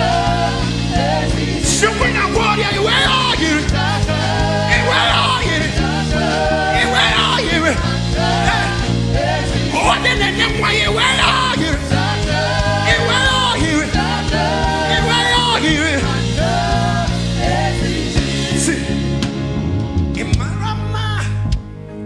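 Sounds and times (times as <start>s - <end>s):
sustained accompaniment: 0.0s - 22.0s.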